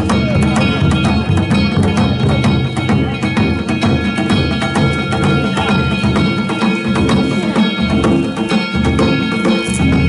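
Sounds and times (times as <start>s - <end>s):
drums beating fast rhythm: 0.0s - 10.0s
hand gongs ringing: 0.0s - 10.0s.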